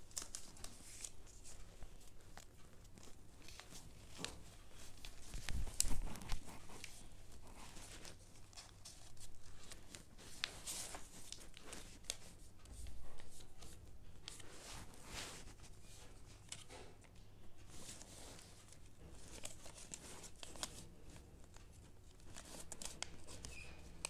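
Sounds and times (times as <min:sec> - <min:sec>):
paper rustling and crinkling: 0:00.0 - 0:24.0.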